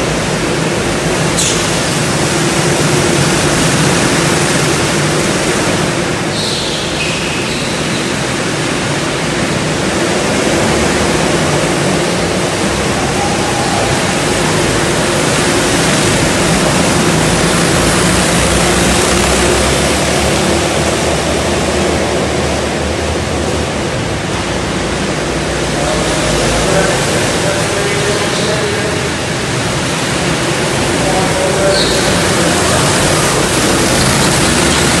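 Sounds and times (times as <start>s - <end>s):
go-kart engines running: 0.0s - 35.0s.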